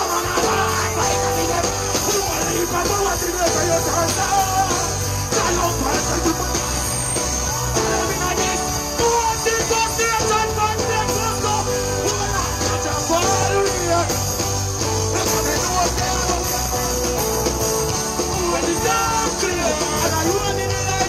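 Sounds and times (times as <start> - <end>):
dancehall music over pa: 0.0 - 21.0
heavy bass beat: 0.0 - 21.0
male vocal: 0.0 - 21.0.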